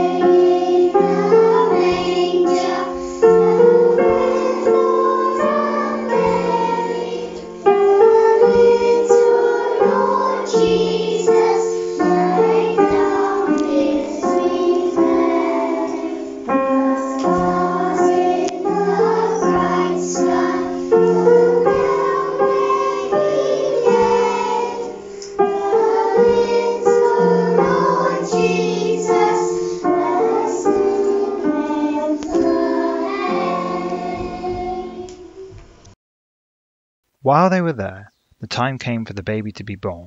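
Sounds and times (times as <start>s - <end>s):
children singing a carol: 0.0s - 35.5s.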